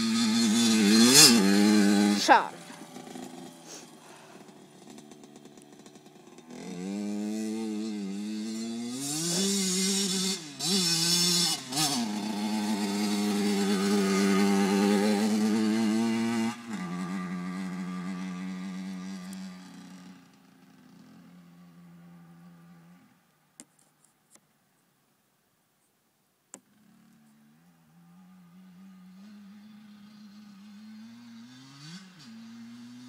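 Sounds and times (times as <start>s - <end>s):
dirt bike engine revving: 0.0s - 22.9s, 26.7s - 33.0s.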